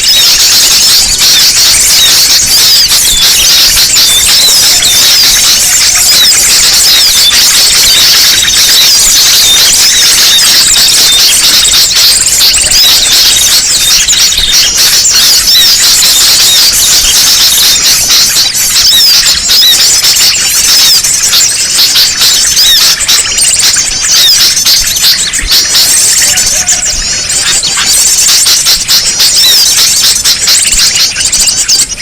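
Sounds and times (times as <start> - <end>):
flock of small birds chirping: 0.0 - 32.0.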